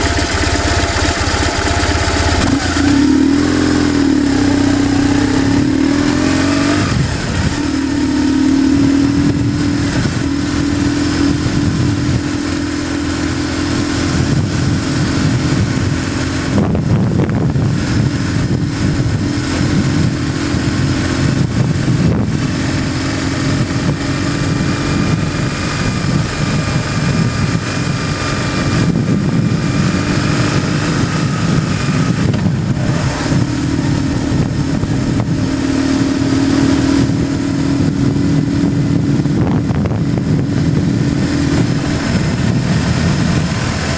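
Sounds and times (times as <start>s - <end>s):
low rumble: 0.0s - 43.9s
motorcycle engine running: 0.0s - 43.9s.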